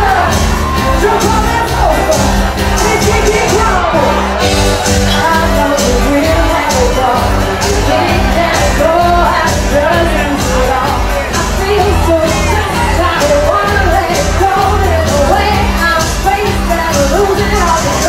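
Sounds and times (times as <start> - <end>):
live pop-rock band: 0.0 - 18.0
person singing: 0.0 - 18.0.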